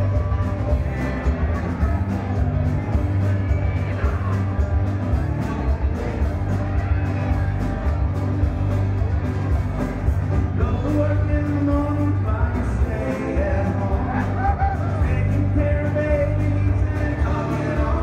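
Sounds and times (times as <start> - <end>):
bass line: 0.0 - 18.0
electric guitars: 0.0 - 18.0.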